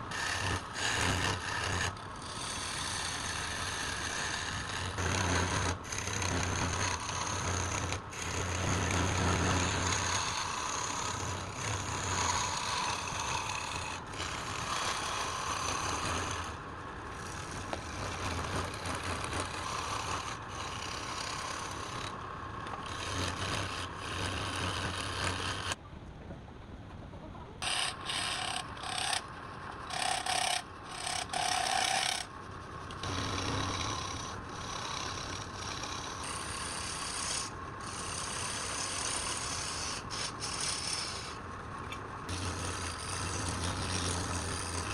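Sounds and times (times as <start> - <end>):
lathe motor hum: 0.0 - 25.8, 27.6 - 44.9
wood rasping on a lathe: 0.0 - 25.8, 27.6 - 44.9.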